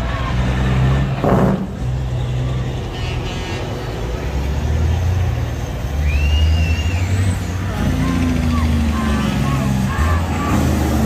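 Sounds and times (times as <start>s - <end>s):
truck engines running: 0.0s - 11.0s.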